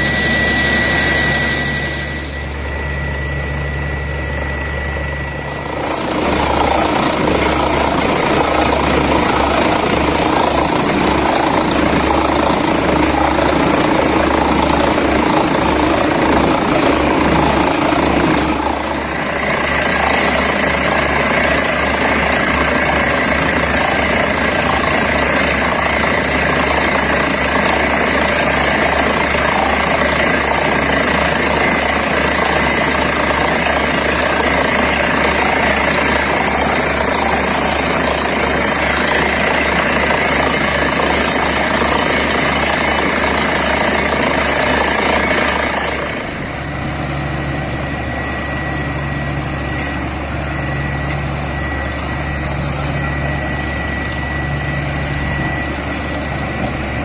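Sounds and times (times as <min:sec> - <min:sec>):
drilling rig running: 0:00.0 - 0:57.0
pulsing engine hum: 0:00.0 - 0:57.0.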